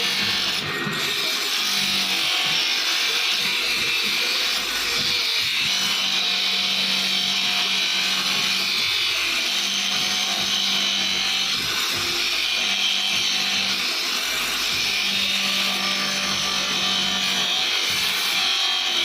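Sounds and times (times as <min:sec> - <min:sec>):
blade rasping on grinder: 0:00.0 - 0:19.0
grinder motor hum: 0:00.0 - 0:19.0.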